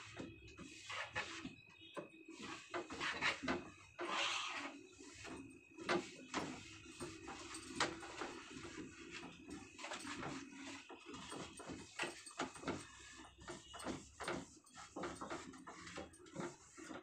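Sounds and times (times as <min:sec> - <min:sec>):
cloth wiping wooden shelf: 0:00.0 - 0:17.0.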